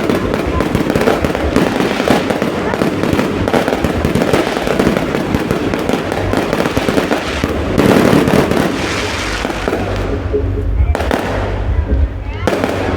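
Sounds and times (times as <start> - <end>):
fireworks crackling bangs: 0.0 - 10.3, 10.9 - 11.7, 12.4 - 12.9.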